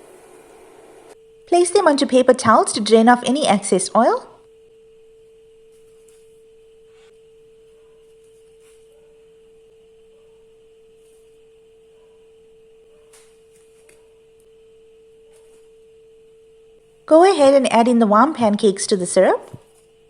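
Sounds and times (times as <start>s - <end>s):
steady pure tone hum: 0.0s - 20.0s.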